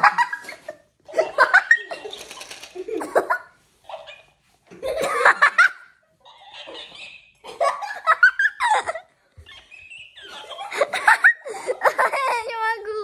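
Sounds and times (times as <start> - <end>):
girls laughing and giggling: 0.0 - 12.8.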